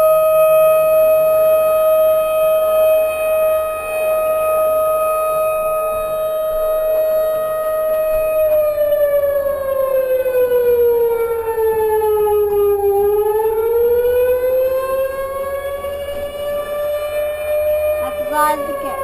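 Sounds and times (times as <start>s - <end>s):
siren wail through small speaker: 0.0s - 19.0s.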